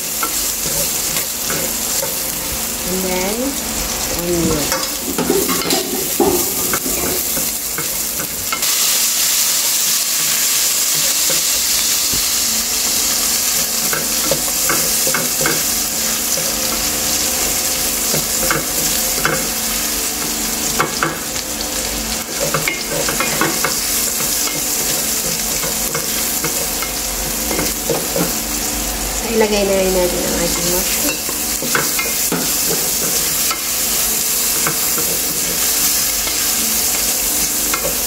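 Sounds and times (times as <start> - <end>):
garlic and onion sizzling in a pan: 0.0 - 38.0.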